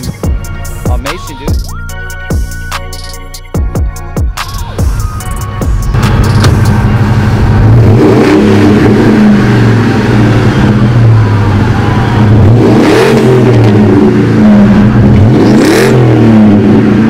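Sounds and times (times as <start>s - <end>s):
pickup engine idling and revving: 0.0s - 17.0s.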